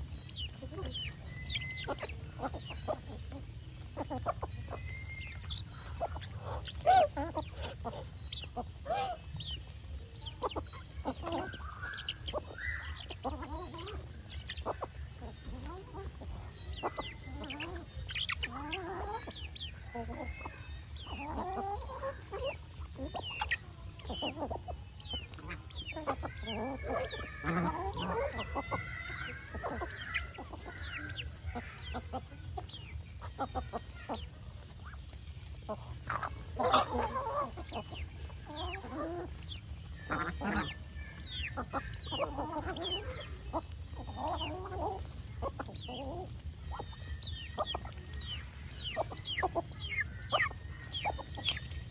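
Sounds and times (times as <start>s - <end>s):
ducks and geese calling: 0.0s - 51.9s
geese honking: 0.0s - 51.9s.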